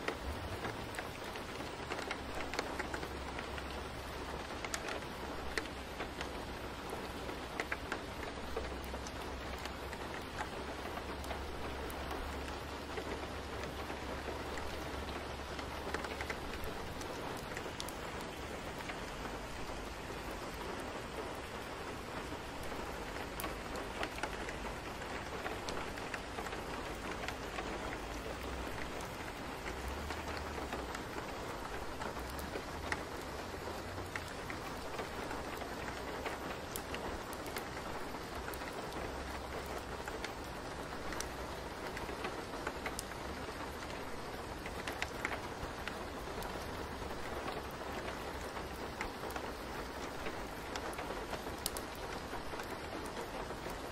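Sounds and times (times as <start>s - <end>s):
rain-like noise with drop ticks: 0.0s - 53.9s.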